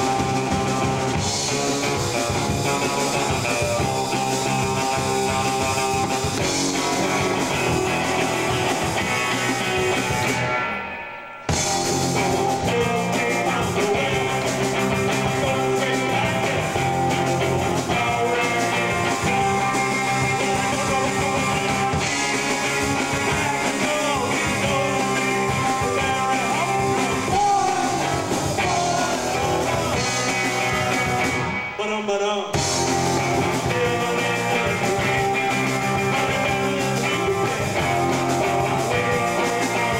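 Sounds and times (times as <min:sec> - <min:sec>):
drum kit: 0:00.0 - 0:39.9
electric guitar: 0:00.0 - 0:39.9
rock band playing live: 0:00.0 - 0:39.9.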